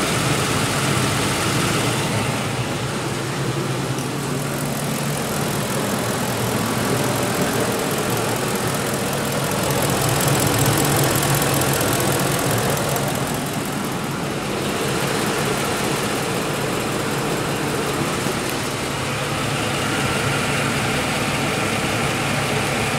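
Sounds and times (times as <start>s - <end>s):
engine idling: 0.0s - 22.9s
fuel injectors ticking: 3.0s - 22.9s.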